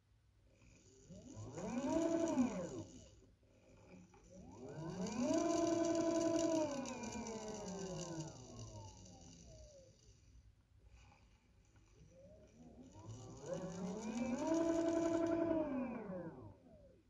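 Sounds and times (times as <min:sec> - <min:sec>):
electric motor whining: 0:00.6 - 0:10.3, 0:11.8 - 0:16.8.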